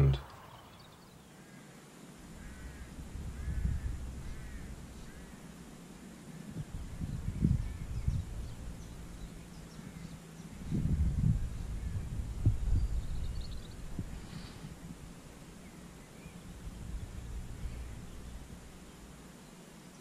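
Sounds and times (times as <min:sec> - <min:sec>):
faint bird chirps: 0:00.0 - 0:20.0
low rumbling on microphone: 0:02.2 - 0:05.8, 0:06.5 - 0:19.4.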